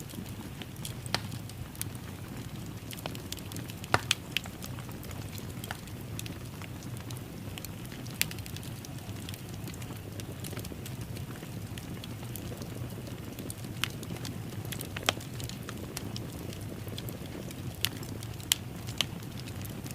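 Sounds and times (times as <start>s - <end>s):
fireplace crackling: 0.0s - 19.9s.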